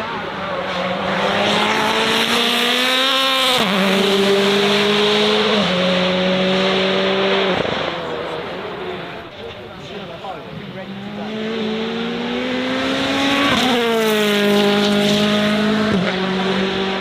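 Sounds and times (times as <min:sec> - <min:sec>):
car engine accelerating hard: 0:00.0 - 0:09.2, 0:10.5 - 0:17.0.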